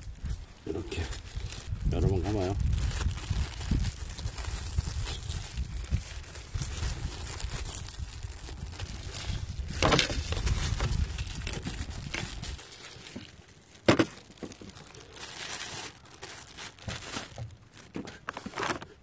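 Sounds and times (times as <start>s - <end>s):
plastic gloves crinkling: 0.0s - 19.0s.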